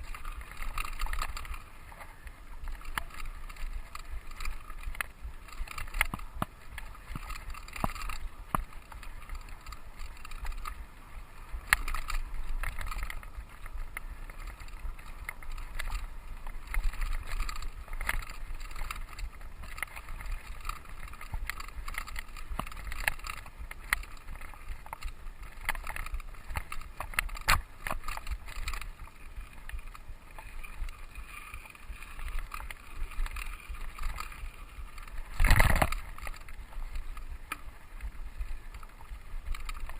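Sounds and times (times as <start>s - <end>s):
bike rattling over bumps: 0.0s - 39.9s
bike tyres and wind rumble: 0.0s - 39.9s.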